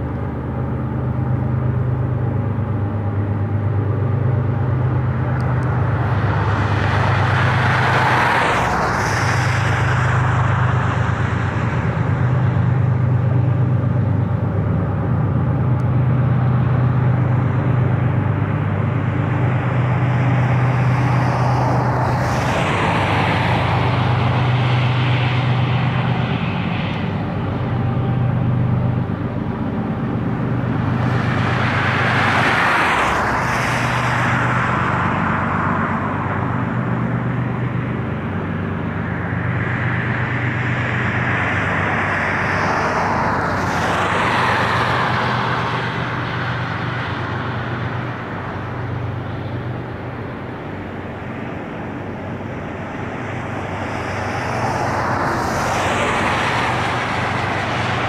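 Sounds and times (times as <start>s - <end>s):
diesel locomotives droning: 0.0s - 58.0s
road vehicles passing: 0.0s - 58.0s.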